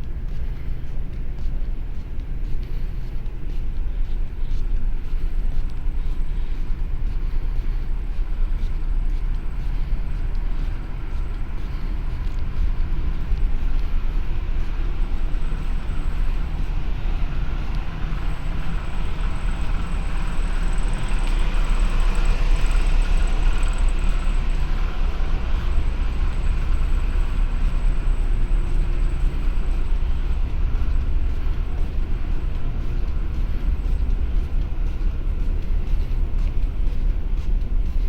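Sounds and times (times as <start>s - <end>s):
ferry engine rumble: 0.0s - 38.0s.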